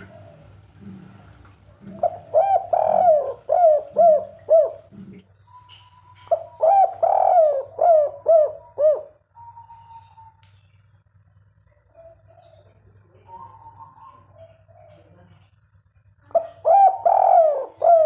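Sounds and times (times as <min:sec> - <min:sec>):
dove cooing: 0:00.0 - 0:10.4, 0:11.7 - 0:15.4, 0:16.3 - 0:18.0.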